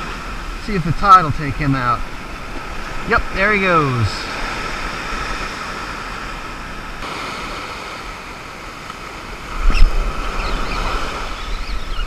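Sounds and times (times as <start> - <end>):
ocean surf washing over sand: 0.0 - 12.0.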